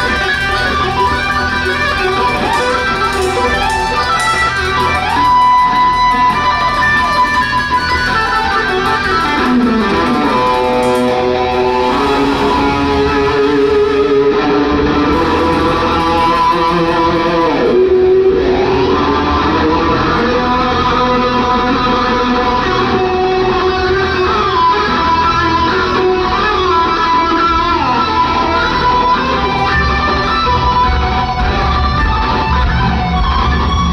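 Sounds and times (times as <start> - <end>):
band playing: 0.0 - 33.9
electric guitar lead: 0.0 - 33.9.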